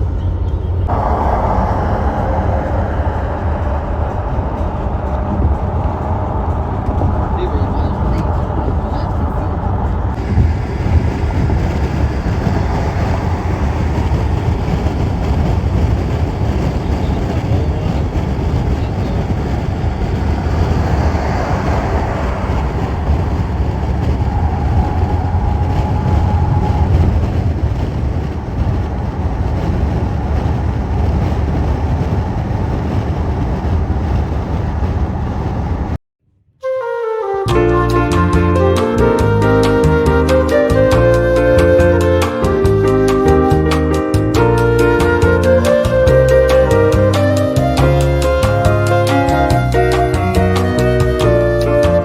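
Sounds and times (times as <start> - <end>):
low engine rumble: 0.0 - 36.0, 37.4 - 52.0.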